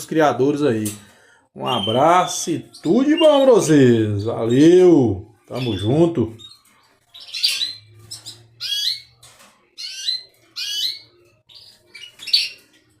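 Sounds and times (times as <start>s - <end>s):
canary chirping: 0.0s - 13.0s.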